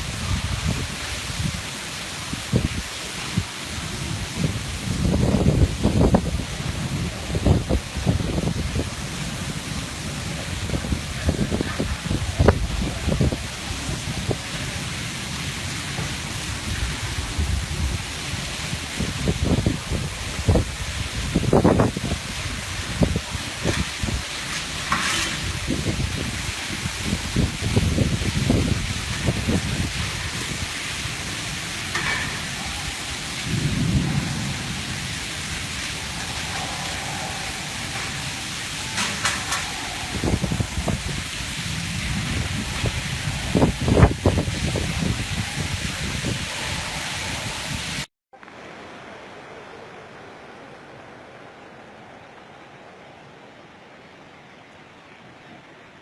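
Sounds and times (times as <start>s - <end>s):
low thunder rumble: 0.0s - 48.0s
wind buffeting microphone: 0.0s - 48.1s
heavy rain falling: 0.0s - 56.0s.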